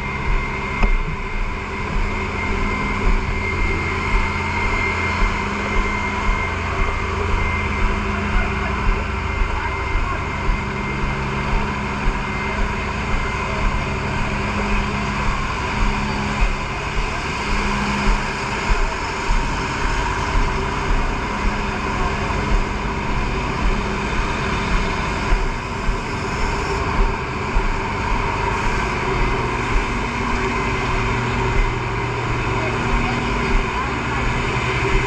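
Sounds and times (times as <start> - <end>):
fire truck engine running: 0.0 - 35.0.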